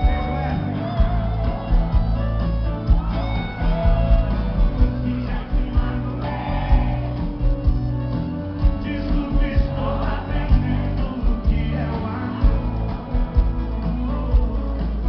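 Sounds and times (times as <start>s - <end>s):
live band music with singing: 0.0s - 15.0s.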